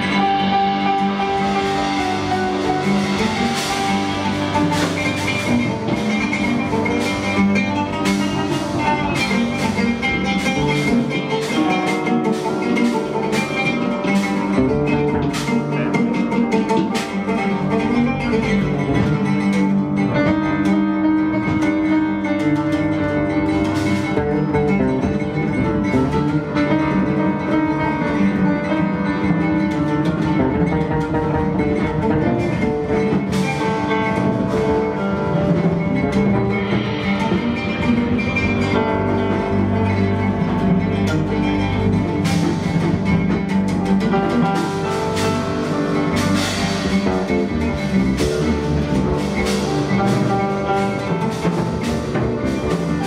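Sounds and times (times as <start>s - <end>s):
electric bass line: 0.0s - 53.0s
oud plucked: 0.0s - 53.0s
percussion striking: 0.0s - 53.0s.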